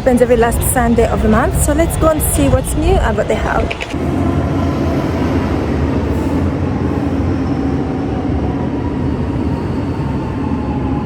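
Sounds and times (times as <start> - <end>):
rail car rumble: 0.0 - 11.0.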